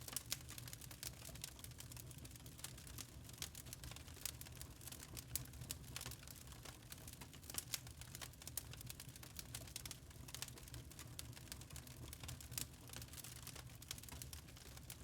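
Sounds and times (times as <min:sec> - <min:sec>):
log fire crackling and popping: 0:00.0 - 0:15.0.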